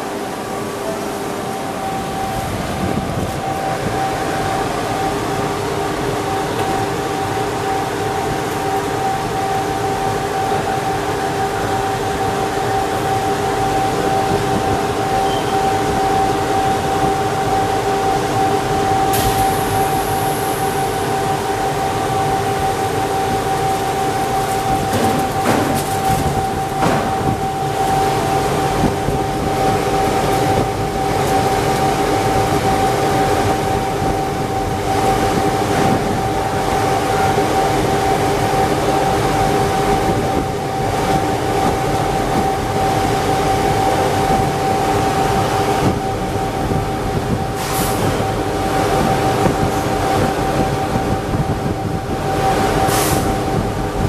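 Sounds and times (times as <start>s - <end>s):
machine hum with whine: 0.0s - 54.0s.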